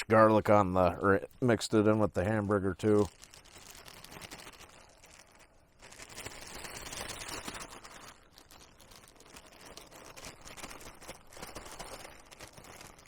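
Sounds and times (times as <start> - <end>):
plastic bag crinkling: 0.3 - 13.0.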